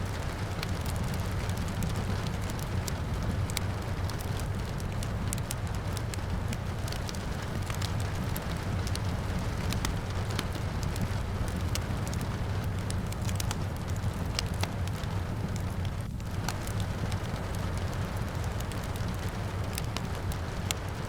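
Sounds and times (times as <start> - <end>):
rain falling: 0.0 - 21.0
wood fire crackling and popping: 0.0 - 21.0.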